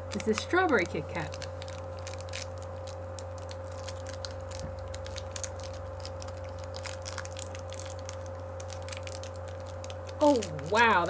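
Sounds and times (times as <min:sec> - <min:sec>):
low hum: 0:00.0 - 0:11.0
plastic wrapper crinkling: 0:00.0 - 0:11.0.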